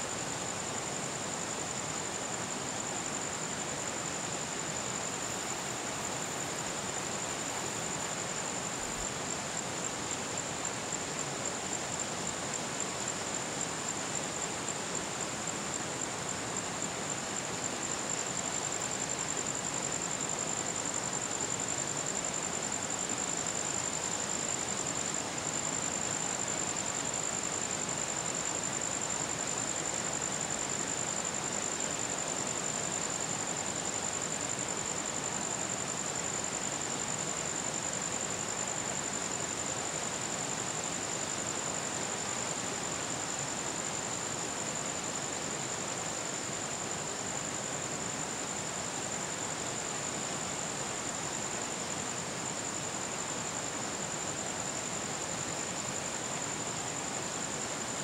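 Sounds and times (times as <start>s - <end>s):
background hiss: 0.0s - 58.0s.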